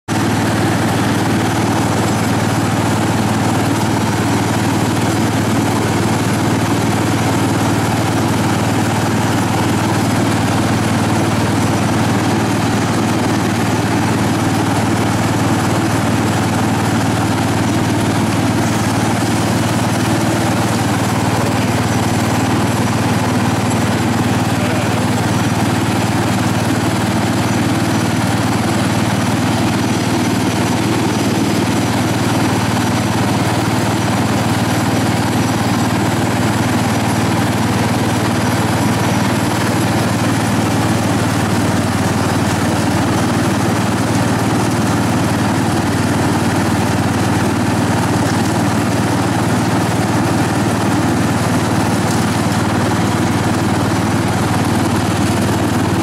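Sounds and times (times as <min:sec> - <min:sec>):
garden tractor engine running: 0:00.1 - 0:56.0.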